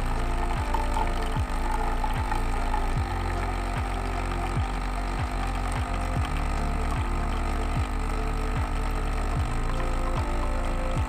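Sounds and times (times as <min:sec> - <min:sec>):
coffee machine pump humming: 0:00.0 - 0:11.0.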